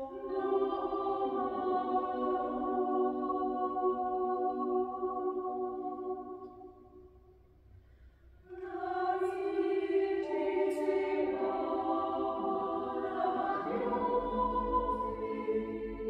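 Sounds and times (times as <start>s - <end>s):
a cappella choir singing chords: 0.0s - 16.0s.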